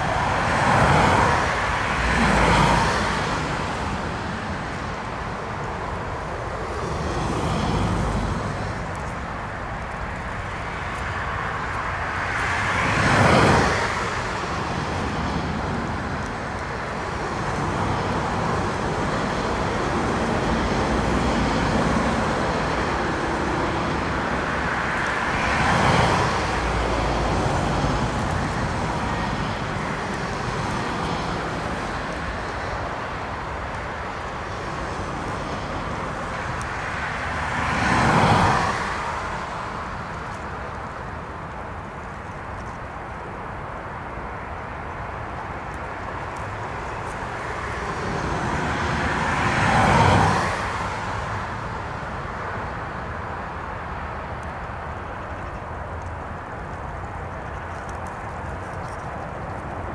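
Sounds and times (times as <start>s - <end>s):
vehicles passing by: 0.0s - 59.9s.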